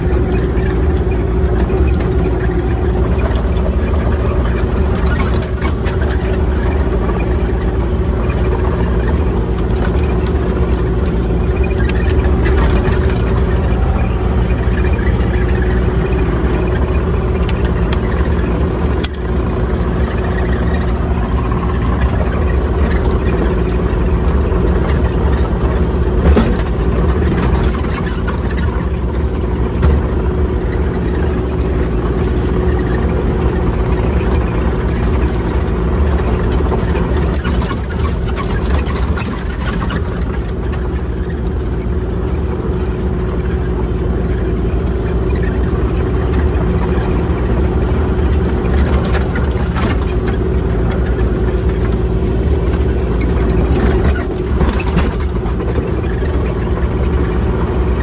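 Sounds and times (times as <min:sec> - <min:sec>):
clicks and rattles: 0:00.0 - 0:41.9, 0:44.4 - 0:58.0
diesel engine droning: 0:00.0 - 0:58.0.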